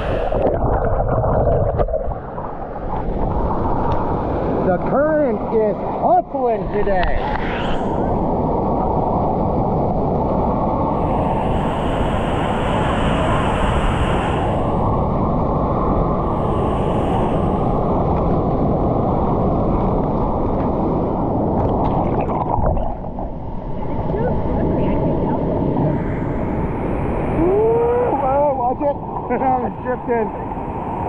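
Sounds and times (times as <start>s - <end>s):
fast river current rushing: 0.0s - 31.0s.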